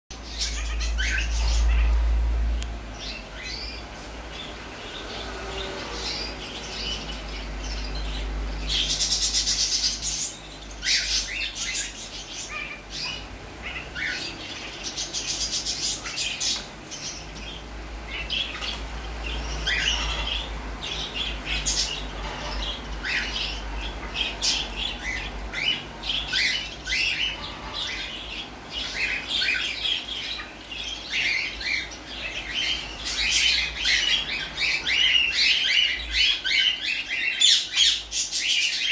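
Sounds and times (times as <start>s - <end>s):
parrots chirping and squawking: 0.1s - 38.9s.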